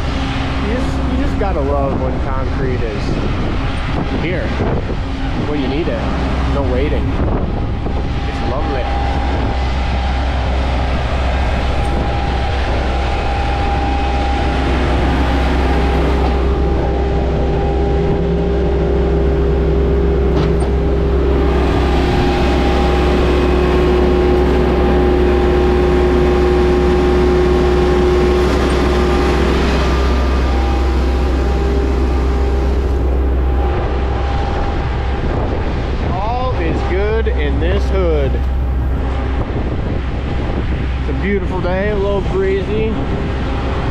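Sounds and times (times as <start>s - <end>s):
concrete pump and mixer truck running: 0.0s - 43.9s.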